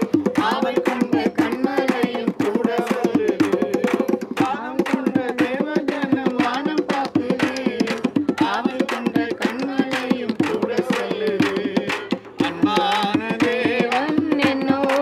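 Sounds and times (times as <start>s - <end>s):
bongos: 0.0s - 15.0s
frame drum: 0.0s - 15.0s
group singing devotional song: 0.0s - 15.0s
hand clapping: 0.0s - 15.0s.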